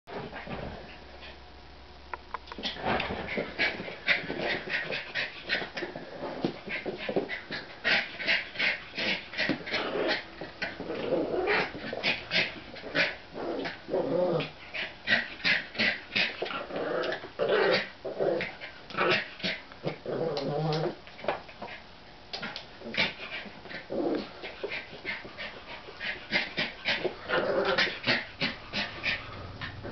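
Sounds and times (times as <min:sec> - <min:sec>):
dogs growling and whining: 0:02.6 - 0:21.0, 0:22.4 - 0:29.9.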